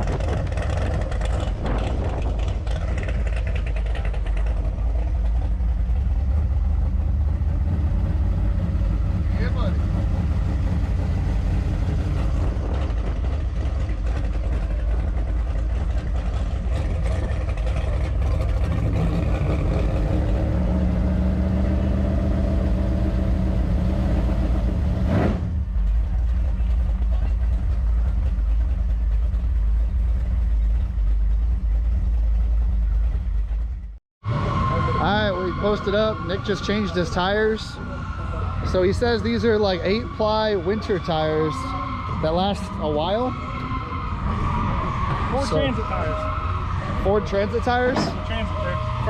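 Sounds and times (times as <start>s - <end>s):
engine heavy low rumble: 0.0s - 49.0s.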